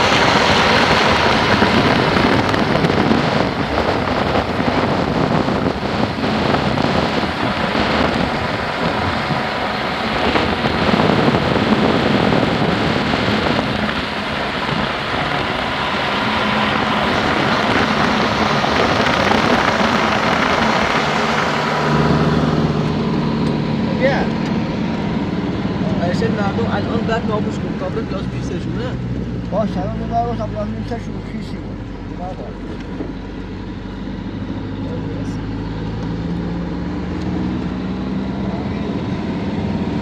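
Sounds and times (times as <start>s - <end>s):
wind blowing across microphone: 0.0s - 40.0s.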